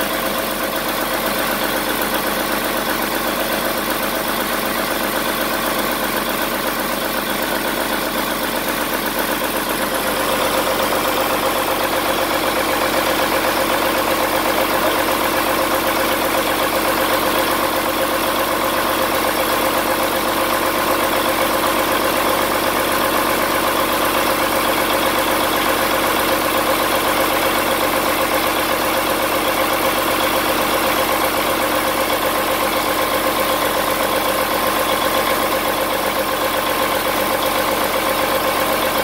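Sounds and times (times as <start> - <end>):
diesel engine running steadily: 0.0 - 39.0.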